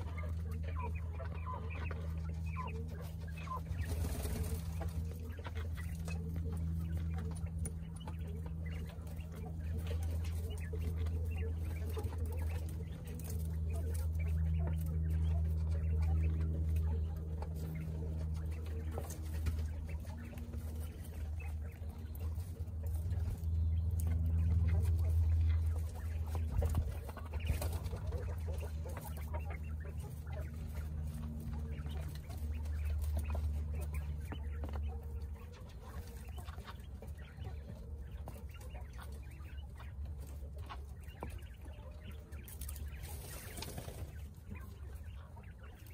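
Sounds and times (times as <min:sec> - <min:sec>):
quail purring calls: 0:00.0 - 0:45.9
scratching in dust and straw: 0:00.0 - 0:45.9.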